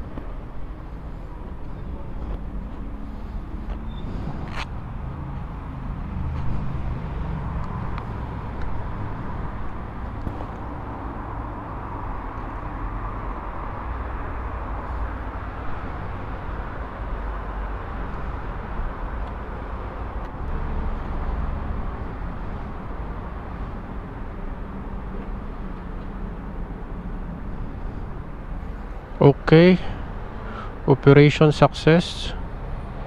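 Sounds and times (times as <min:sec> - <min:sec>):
road vehicles rumbling: 0:00.0 - 0:33.0.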